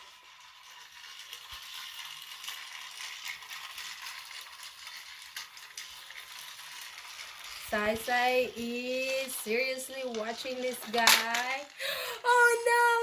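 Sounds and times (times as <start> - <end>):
toy train gear motors: 0.0 - 13.0
toy train rattling on track: 0.0 - 13.0.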